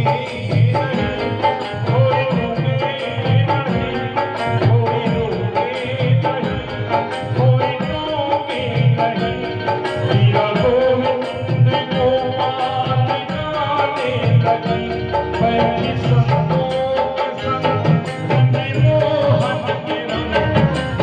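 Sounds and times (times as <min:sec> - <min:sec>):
hand drum beating: 0:00.0 - 0:21.0.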